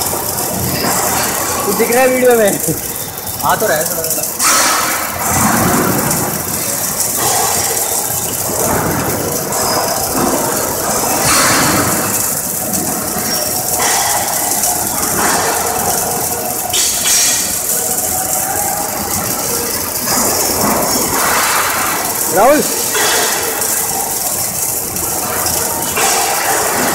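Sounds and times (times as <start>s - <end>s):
welding arcs crackling: 0.0s - 26.9s.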